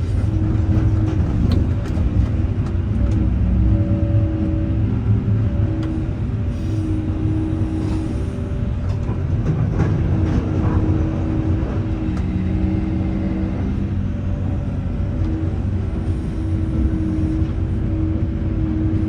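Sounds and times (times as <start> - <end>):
heavy machine rumble: 0.0 - 19.0.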